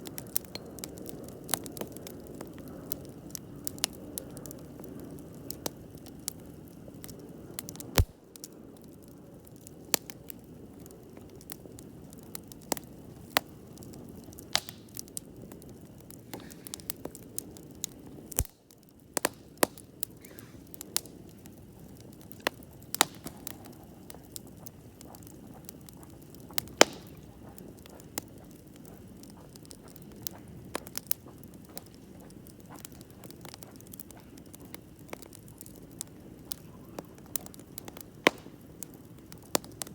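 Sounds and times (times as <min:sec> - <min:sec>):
pops and crackles of burning wood: 0:00.0 - 0:39.9
rustle of campfire flames: 0:00.0 - 0:39.9.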